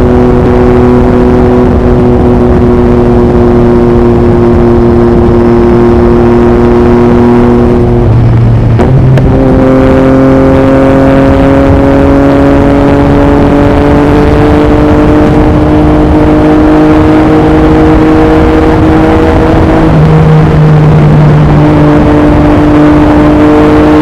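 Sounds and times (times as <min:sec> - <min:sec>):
exhaust crackle: 0:00.0 - 0:11.8, 0:12.5 - 0:23.4
motorcycle engine accelerating: 0:00.0 - 0:24.0.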